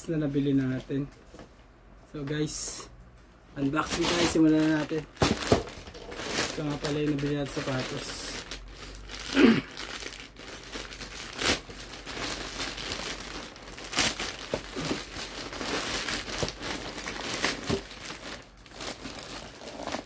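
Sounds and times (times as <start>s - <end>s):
plastic bag crinkling: 3.6s - 20.0s.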